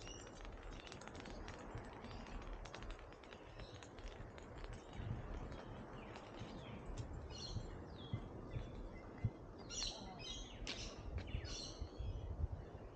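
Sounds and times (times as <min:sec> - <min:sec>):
birds chirping: 0:00.0 - 0:12.9
low outdoor rumble: 0:00.0 - 0:12.9.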